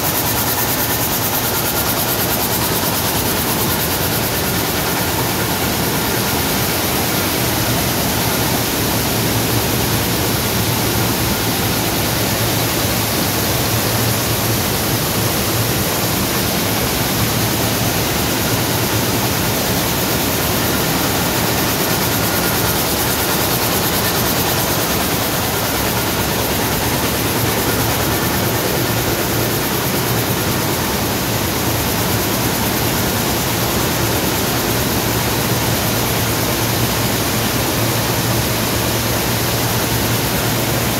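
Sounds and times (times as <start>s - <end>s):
weaving looms running: 0.0s - 40.9s.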